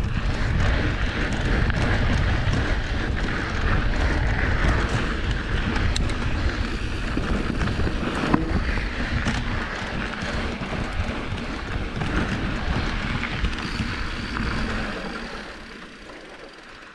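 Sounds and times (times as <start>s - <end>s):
wind rumbling on microphone: 0.0s - 16.3s
bike clicks and knocks: 0.0s - 16.9s
bike tyres crunching on dirt: 0.0s - 16.9s.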